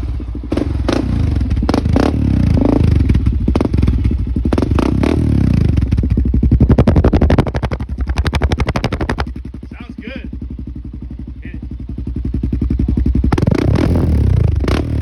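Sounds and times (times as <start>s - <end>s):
atv engine revving and running: 0.0s - 15.0s.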